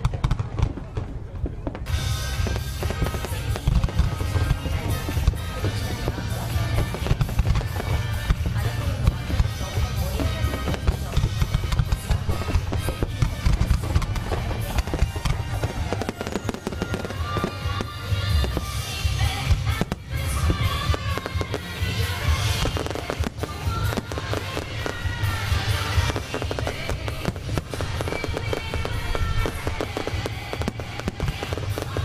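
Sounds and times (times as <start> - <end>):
firework shell bursts and crackle: 0.0 - 32.0
music playing: 1.2 - 32.0.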